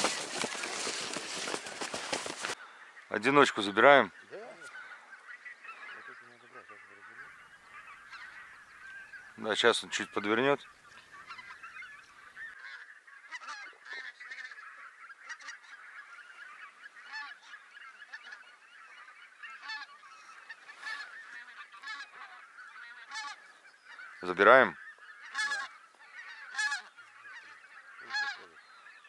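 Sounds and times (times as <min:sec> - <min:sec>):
geese honking in flight: 0:00.0 - 0:29.0.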